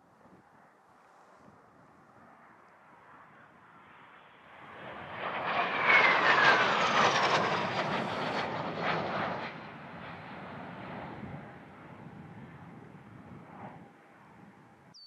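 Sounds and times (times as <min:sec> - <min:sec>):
military jet passing: 0:01.6 - 0:14.8.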